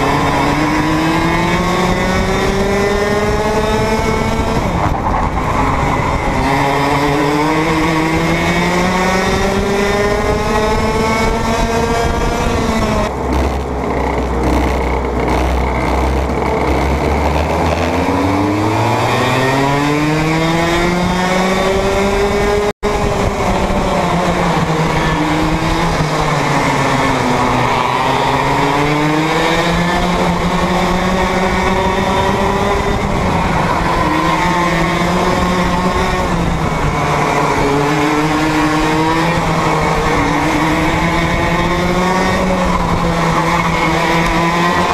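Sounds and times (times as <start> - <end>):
two-stroke kart engine revving: 0.0 - 44.9.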